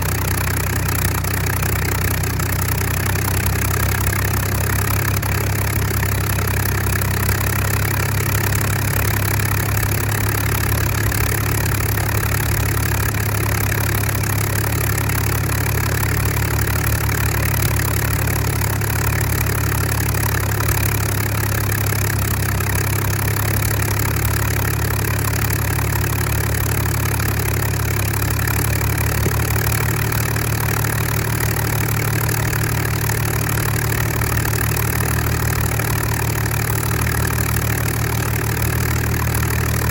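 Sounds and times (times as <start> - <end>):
aero engine running steadily: 0.0 - 39.9.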